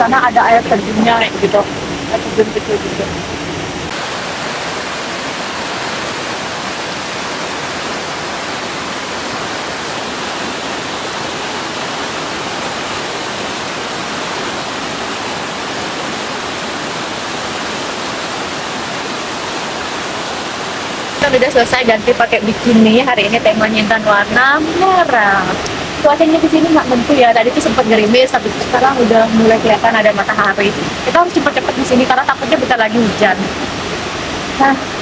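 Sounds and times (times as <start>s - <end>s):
waterfall pouring over rocks: 3.9s - 35.0s.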